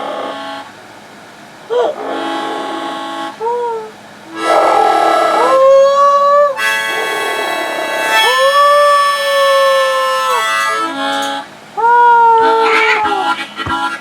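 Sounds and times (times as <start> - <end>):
harmonica playing a tune: 0.0 - 0.8, 1.7 - 5.7, 6.6 - 14.0.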